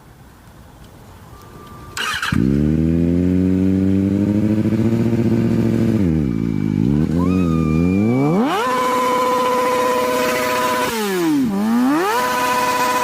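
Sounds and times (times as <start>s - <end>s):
motorcycle engine revving: 2.0s - 13.0s.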